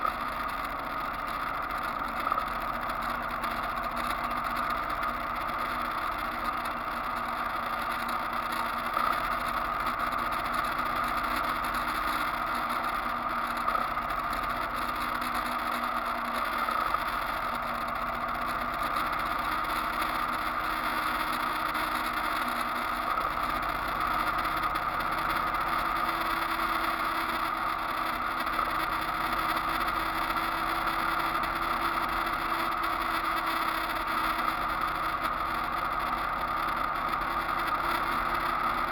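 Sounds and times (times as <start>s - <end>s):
wind and road noise: 0.0s - 38.9s.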